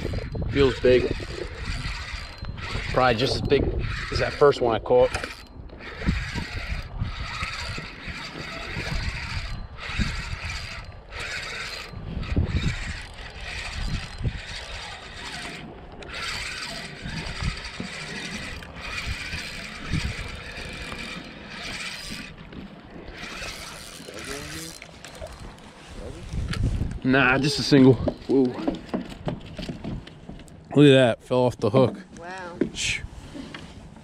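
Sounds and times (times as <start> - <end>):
fishing reel whirring: 0.0 - 29.8.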